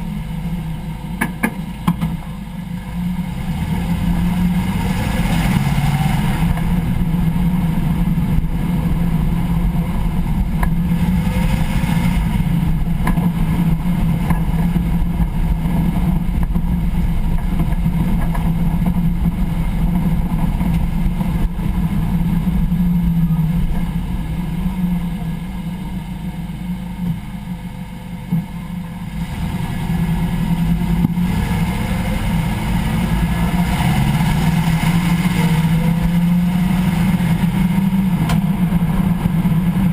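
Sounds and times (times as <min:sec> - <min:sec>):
low driveline drone: 0:00.0 - 0:39.9
road noise: 0:00.0 - 0:39.9.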